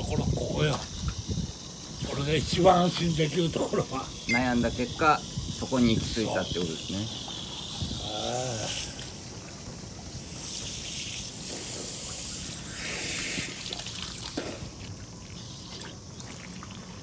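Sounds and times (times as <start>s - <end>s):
water running into pool: 0.0s - 17.0s
hose shower spraying water: 0.3s - 16.1s.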